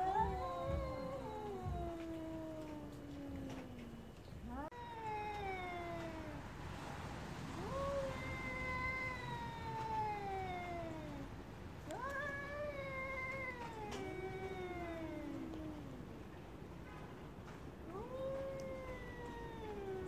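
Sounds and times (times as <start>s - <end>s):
cats caterwauling: 0.0s - 16.7s, 17.7s - 20.0s.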